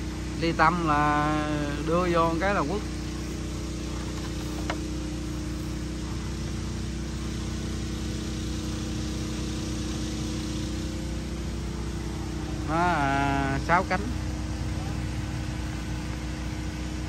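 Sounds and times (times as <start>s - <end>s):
small engine humming: 0.0s - 17.0s.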